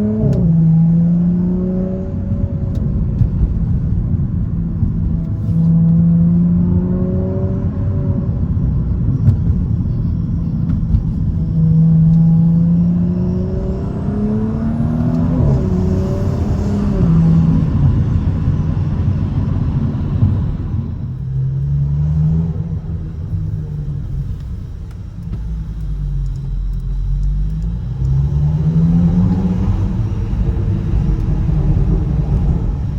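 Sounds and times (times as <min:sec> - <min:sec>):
car exhaust revving: 0:00.0 - 0:32.9
exhaust crackles: 0:00.0 - 0:32.9.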